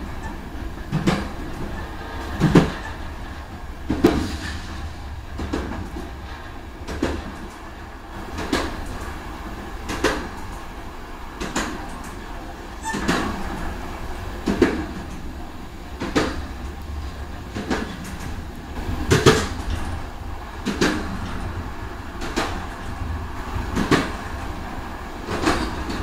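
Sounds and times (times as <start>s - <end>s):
train rumbling on track: 0.0s - 26.0s
wheels clacking over rail joints: 0.0s - 26.0s.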